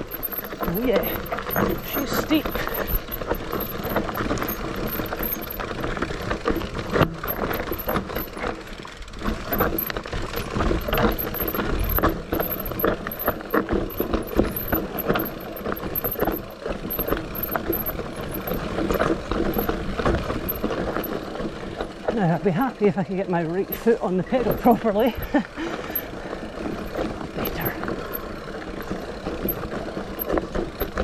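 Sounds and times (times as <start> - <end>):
mountain bike rattling and clicking: 0.0 - 31.0.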